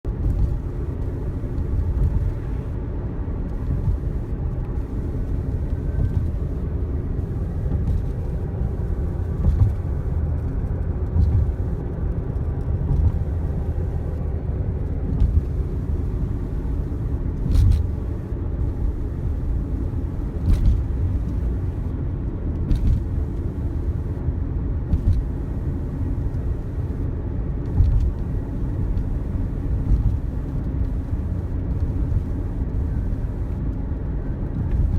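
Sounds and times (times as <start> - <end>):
road and wind rumble: 0.0 - 34.9.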